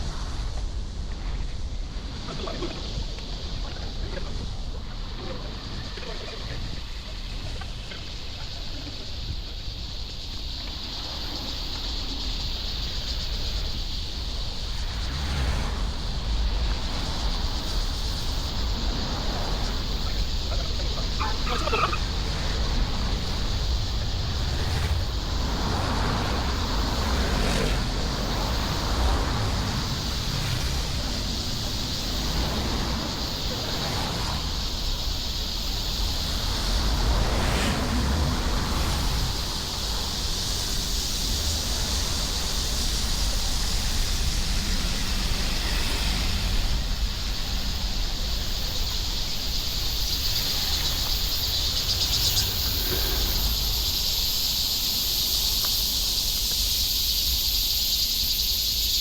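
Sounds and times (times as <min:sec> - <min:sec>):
low outdoor rumble: 0:00.0 - 0:56.5
high insect chorus: 0:00.0 - 0:59.0.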